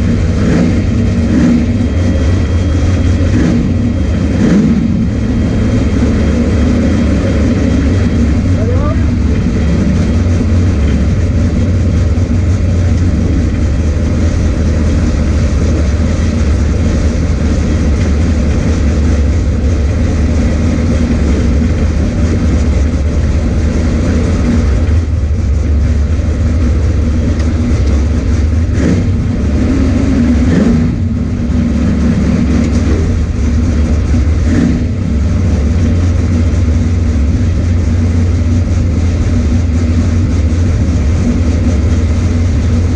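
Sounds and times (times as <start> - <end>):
loud car engine droning: 0.0 - 42.9.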